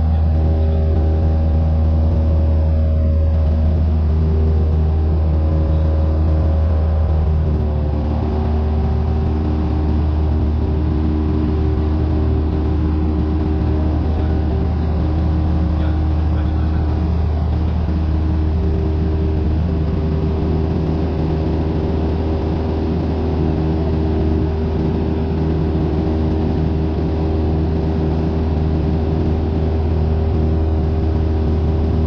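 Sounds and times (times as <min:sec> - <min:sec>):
airplane engine and propeller droning: 0:00.0 - 0:32.0.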